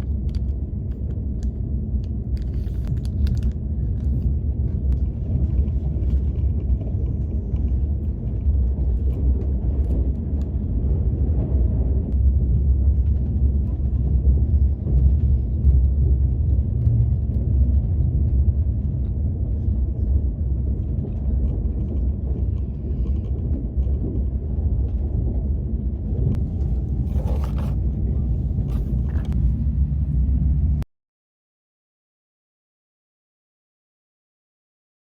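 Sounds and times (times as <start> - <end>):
train carriage low rumble: 0.0 - 30.8.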